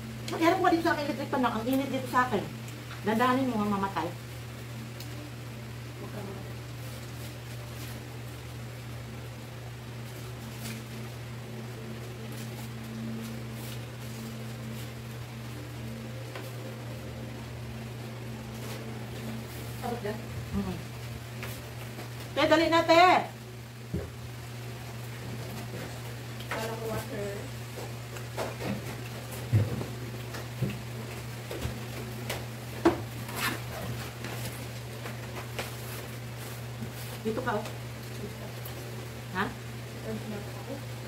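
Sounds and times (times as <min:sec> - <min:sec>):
electric fan humming: 0:00.0 - 0:41.0
faint rustling of food: 0:04.5 - 0:22.4, 0:23.6 - 0:41.0.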